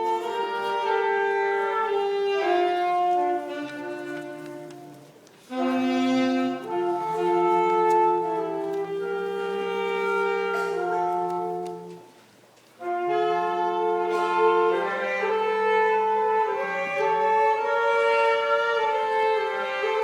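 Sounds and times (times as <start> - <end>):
wind instruments playing hymn: 0.0 - 20.0.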